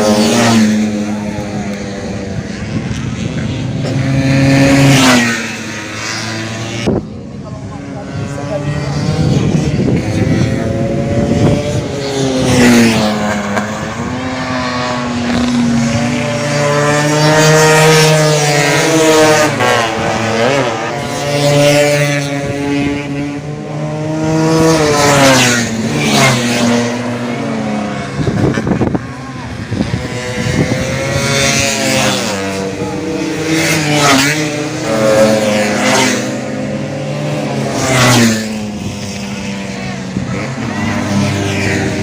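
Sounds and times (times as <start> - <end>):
two-stroke scooter engine revving: 0.0 - 6.9, 7.6 - 42.0.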